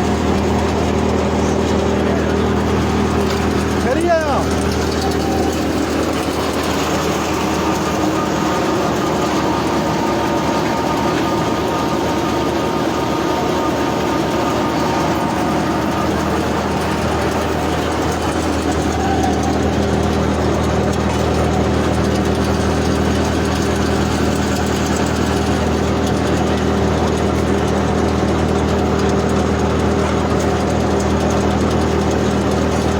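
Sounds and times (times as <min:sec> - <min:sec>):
wheat thresher running: 0:00.0 - 0:32.9.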